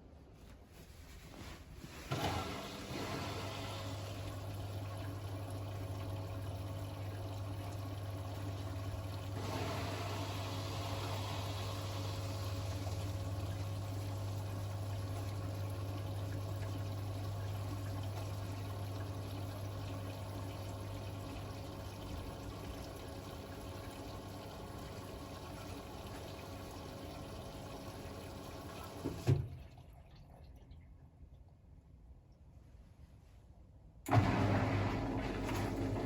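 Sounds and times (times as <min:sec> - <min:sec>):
water rushing into washing machine: 0:02.0 - 0:30.8, 0:34.1 - 0:36.0.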